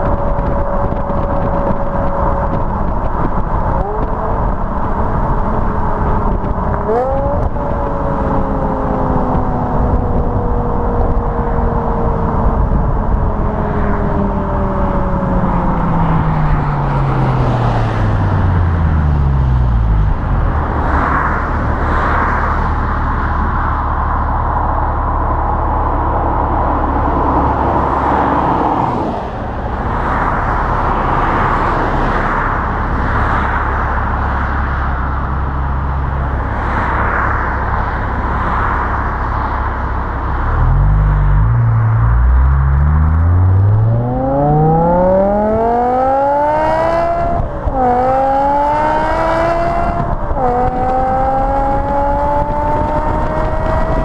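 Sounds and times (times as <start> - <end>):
car engine: 0.0 - 54.0
passing traffic: 0.0 - 54.0
tyre and road noise: 0.0 - 54.0.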